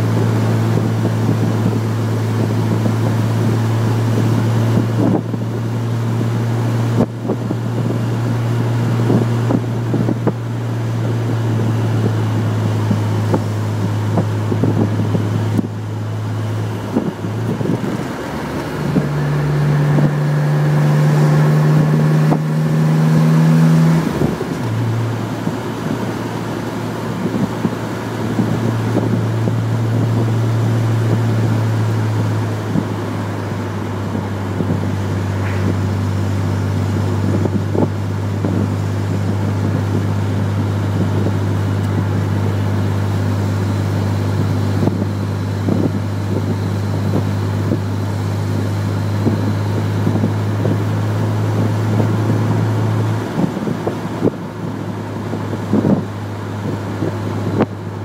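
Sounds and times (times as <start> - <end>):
car engine droning: 0.0 - 58.0
wind and road noise: 0.0 - 58.0.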